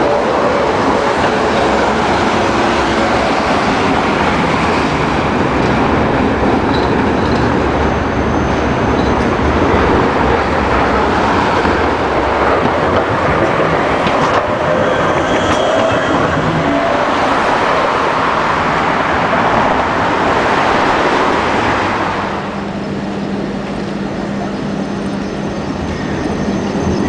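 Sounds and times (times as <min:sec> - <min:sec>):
tram wheels rolling on rails: 0:00.0 - 0:27.0.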